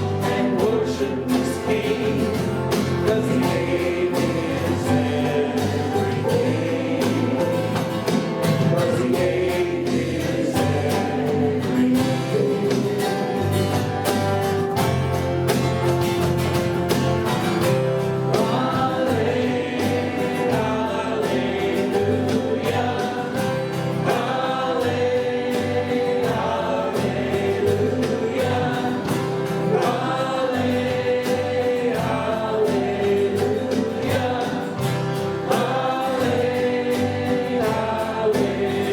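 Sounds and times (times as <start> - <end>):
choir singing together: 0.0 - 38.9
worship band playing: 0.0 - 38.9.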